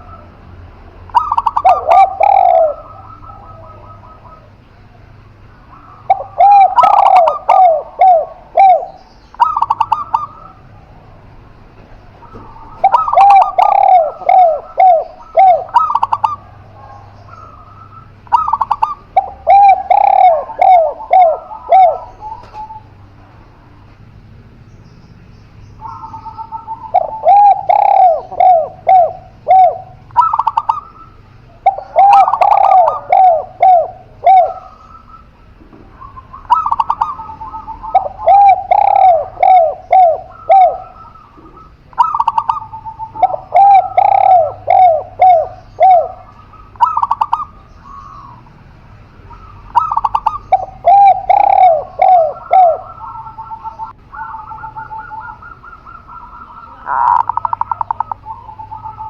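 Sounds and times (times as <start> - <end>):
doves cooing: 0.0 - 24.7, 25.6 - 59.0.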